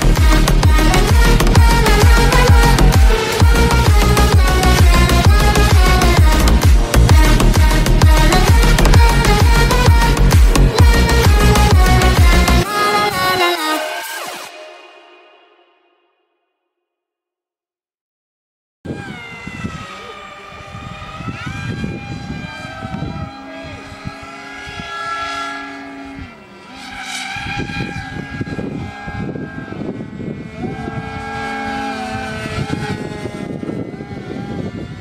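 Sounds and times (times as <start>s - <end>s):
wind rumbling on microphone: 0.0s - 12.7s, 18.9s - 35.0s
electric motors and propellers whining: 0.0s - 14.7s, 18.9s - 35.0s.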